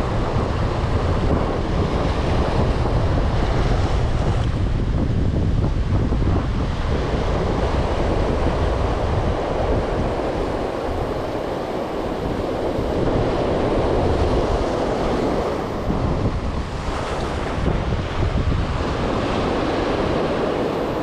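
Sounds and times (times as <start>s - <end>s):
ocean surf breaking over rocks: 0.0s - 21.0s
wind rumbling on microphone: 0.0s - 21.0s.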